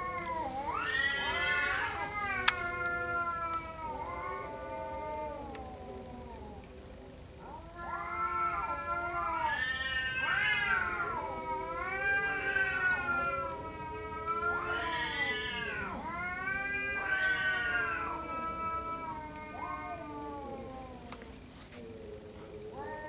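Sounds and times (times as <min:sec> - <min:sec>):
cats yowling: 0:00.0 - 0:06.8, 0:07.4 - 0:23.0.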